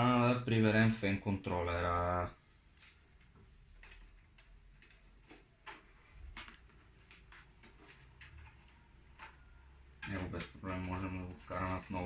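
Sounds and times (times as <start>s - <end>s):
small clicks of cables and plastic: 1.6s - 12.0s.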